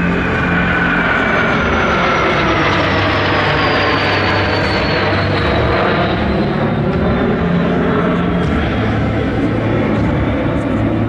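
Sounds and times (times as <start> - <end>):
jet engines whining overhead: 0.0 - 11.0.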